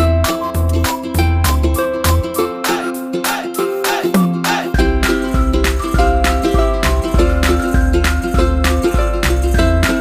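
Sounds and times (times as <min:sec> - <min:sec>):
music with beat and bass: 0:00.0 - 0:10.0
plucked-string melody: 0:00.0 - 0:10.0.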